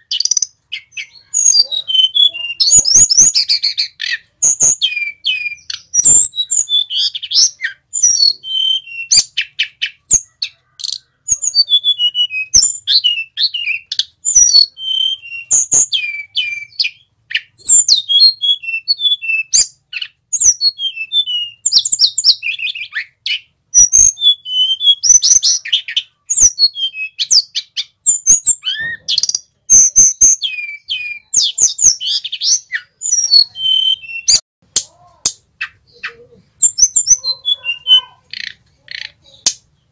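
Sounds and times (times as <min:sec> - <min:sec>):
bird whistling song: 0:00.0 - 0:34.4, 0:35.6 - 0:39.9.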